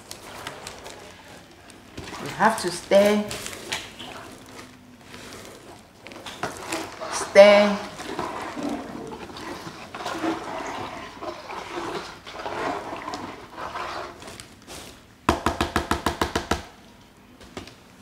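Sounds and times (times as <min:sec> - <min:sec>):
plastic spoon stirring water: 0:00.0 - 0:15.0.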